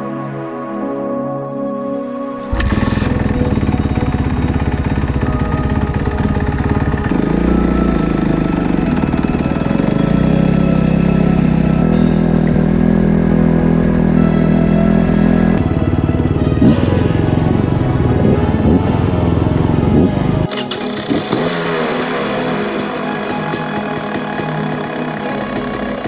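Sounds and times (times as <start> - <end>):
background music: 0.0 - 26.0
dirt bike engines idling: 2.5 - 26.0.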